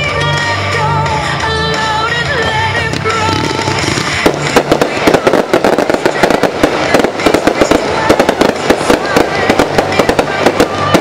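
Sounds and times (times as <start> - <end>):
sung pop tune: 0.0 - 11.0
fireworks crackling and popping: 1.7 - 11.0.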